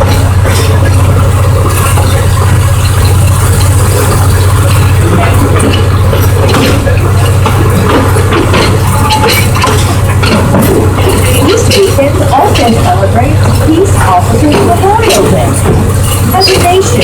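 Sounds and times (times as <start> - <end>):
light clatter: 0.0 - 17.0
locomotive engine droning: 0.0 - 17.0.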